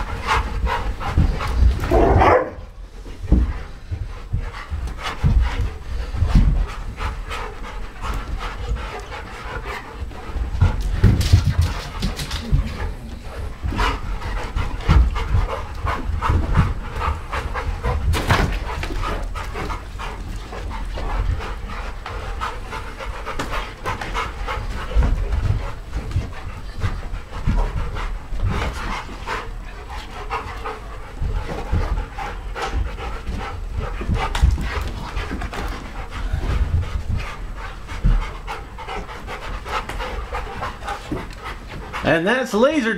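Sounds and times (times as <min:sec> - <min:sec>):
paws thudding on carpet: 0:00.0 - 0:42.0
dogs panting: 0:00.0 - 0:42.6.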